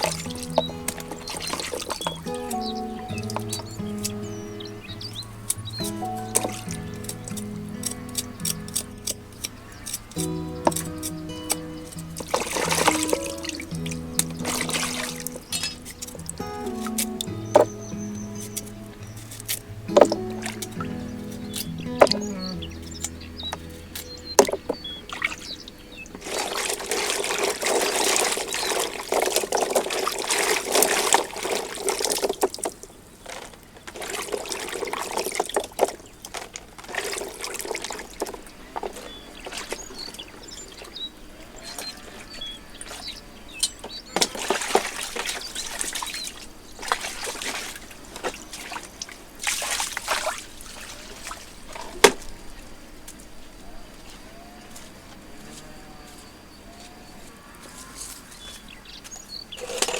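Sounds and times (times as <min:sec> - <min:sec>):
water pouring and trickling: 0:00.0 - 0:52.7, 0:58.4 - 0:59.9.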